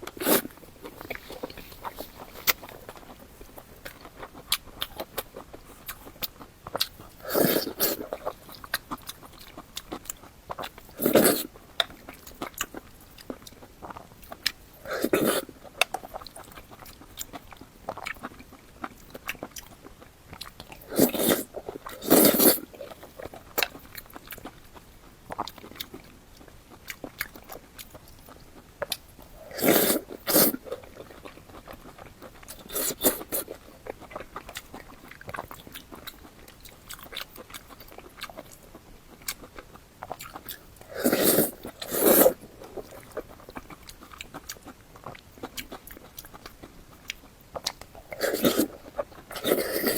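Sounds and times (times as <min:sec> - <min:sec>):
chewing food: 0:00.0 - 0:49.9.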